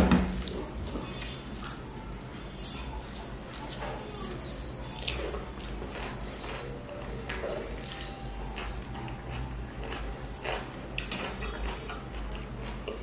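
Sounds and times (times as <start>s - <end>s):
wet chewing and lip-smacking: 0.4s - 13.0s.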